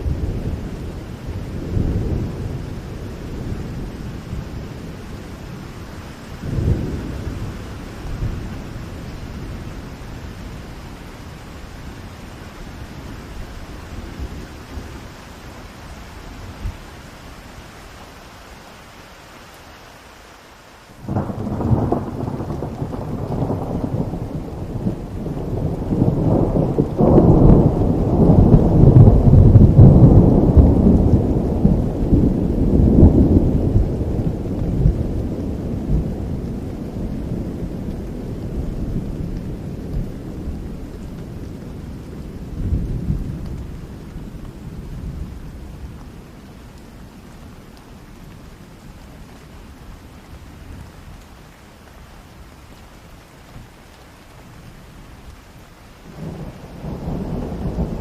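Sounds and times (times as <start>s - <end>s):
thunder rumbling: 0.0s - 15.2s, 21.0s - 51.3s, 54.6s - 58.0s
rain falling: 0.0s - 58.0s.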